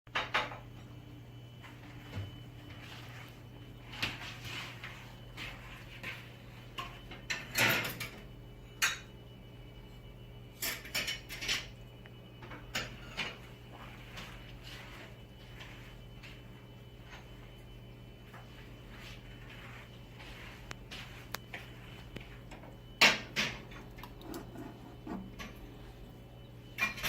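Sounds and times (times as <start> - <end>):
steady low hum: 0.2 - 27.0.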